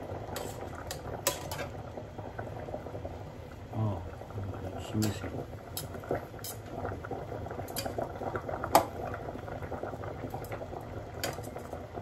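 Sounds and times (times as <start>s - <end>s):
water boiling in pot: 0.0s - 12.0s.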